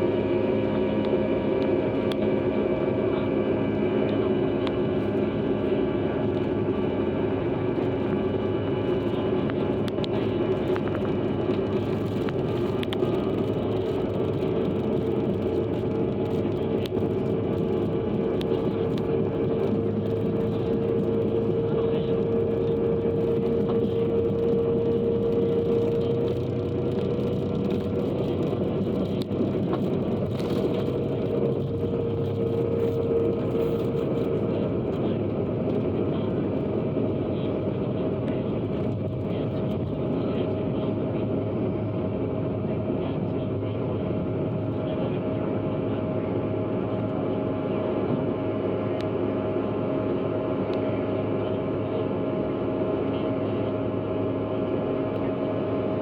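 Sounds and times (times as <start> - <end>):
jet engine and airflow rush: 0.0 - 56.0
steady hum tone: 0.0 - 56.0.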